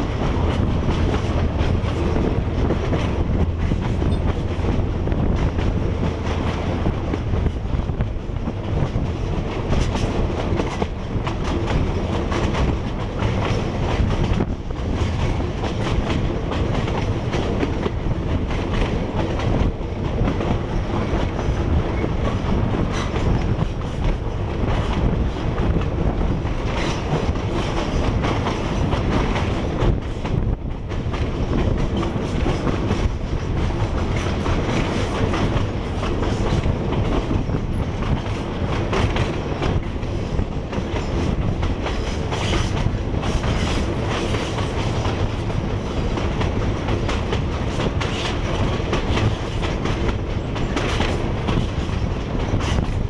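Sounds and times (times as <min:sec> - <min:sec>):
low train rumble: 0:00.0 - 0:53.0
train wheels clattering: 0:00.0 - 0:53.0.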